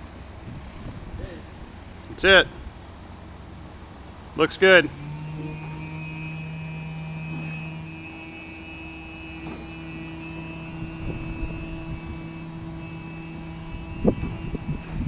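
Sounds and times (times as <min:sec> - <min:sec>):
hydraulic pump humming: 0:02.9 - 0:15.0.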